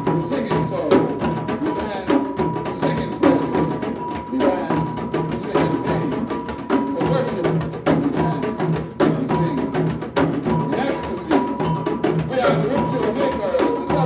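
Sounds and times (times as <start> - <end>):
hand drum and wood block strokes: 0.0 - 14.0.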